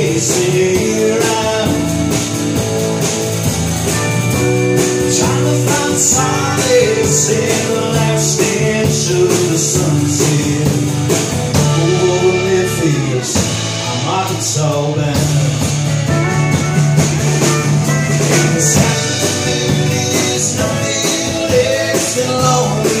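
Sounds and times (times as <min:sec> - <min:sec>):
live band playing country-rock: 0:00.0 - 0:23.0.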